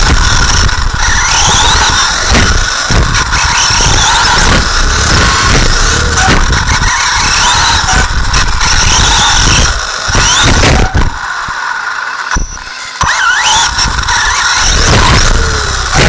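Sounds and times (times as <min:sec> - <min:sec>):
toy car motor whine: 0:00.0 - 0:16.0.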